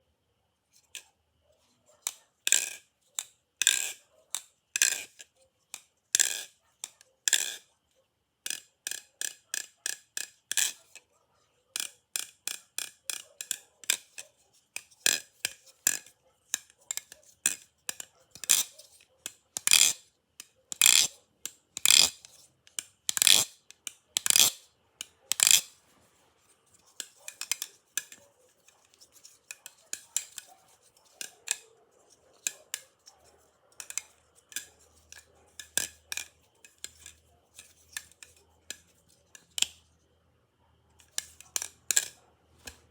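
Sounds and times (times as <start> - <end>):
butterfly knife handles clacking: 0.7 - 7.7, 8.4 - 11.1, 11.7 - 25.8, 26.4 - 39.8, 41.0 - 42.9.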